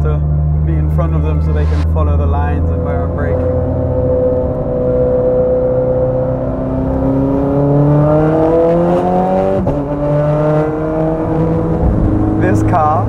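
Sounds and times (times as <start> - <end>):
sports car accelerating: 0.0 - 13.0.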